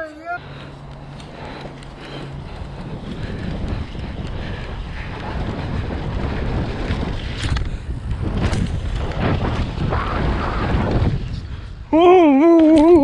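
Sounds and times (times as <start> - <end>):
wind rushing over microphone: 0.4 - 13.0.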